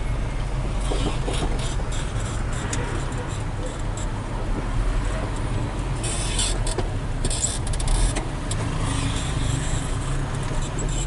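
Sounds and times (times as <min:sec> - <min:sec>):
truck diesel engine hum: 0:00.0 - 0:11.0.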